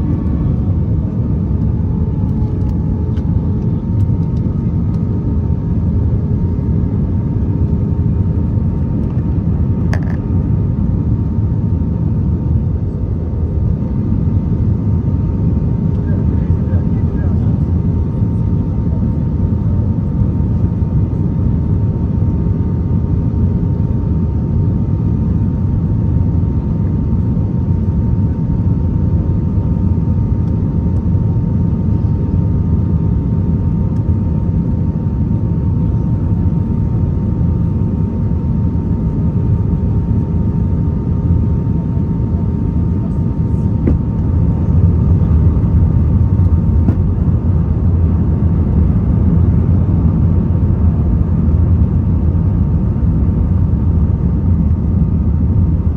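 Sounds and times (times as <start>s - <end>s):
low rumble of aircraft engines: 0.0s - 55.9s.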